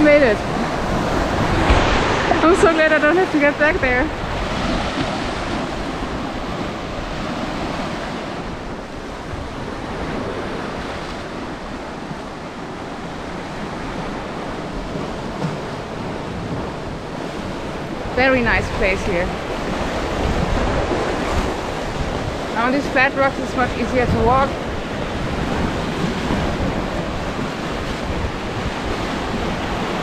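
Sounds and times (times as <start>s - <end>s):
waves washing on rocky shore: 0.0s - 30.0s
wind on microphone: 0.0s - 30.0s.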